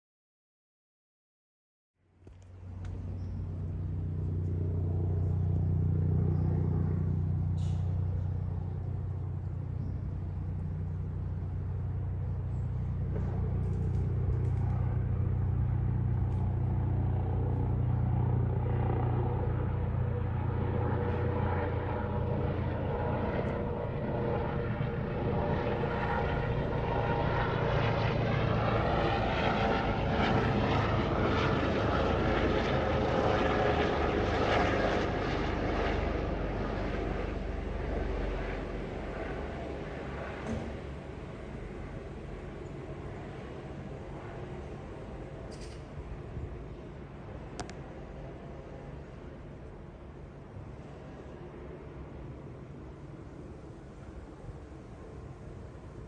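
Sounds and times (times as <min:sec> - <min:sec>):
helicopter rotor and engine: 0:02.2 - 0:56.0.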